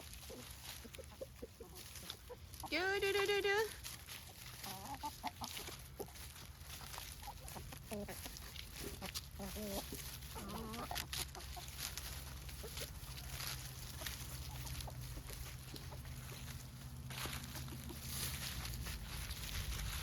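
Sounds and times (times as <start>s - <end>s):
chickens clucking: 0.0s - 20.0s
chickens pecking clicks: 3.8s - 20.0s.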